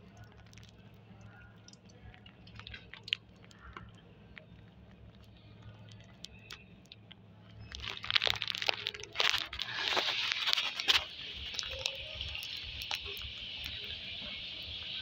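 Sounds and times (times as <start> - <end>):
running water: 0.0 - 15.0
water splashing and clatter: 0.0 - 15.0.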